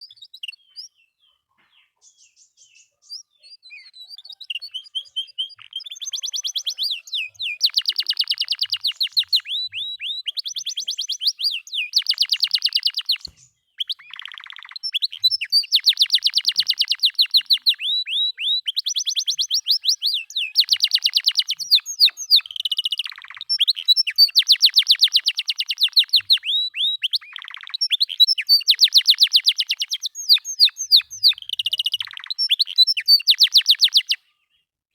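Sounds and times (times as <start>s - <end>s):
canary singing: 0.0s - 34.2s.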